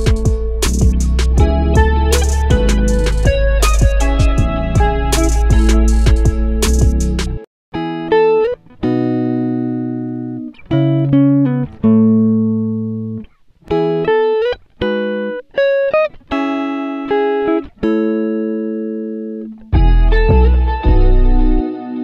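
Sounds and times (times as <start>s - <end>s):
plucked guitar chords: 0.0s - 22.0s.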